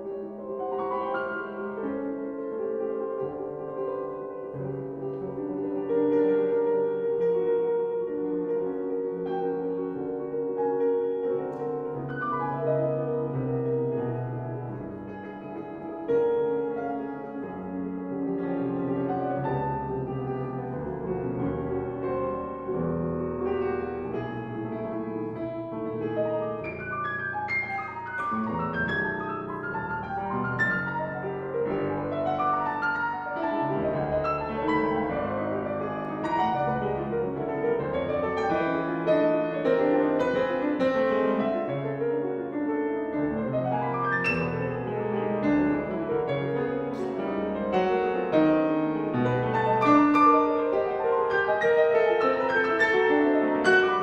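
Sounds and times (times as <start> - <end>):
grand piano played four hands: 0.0 - 54.0.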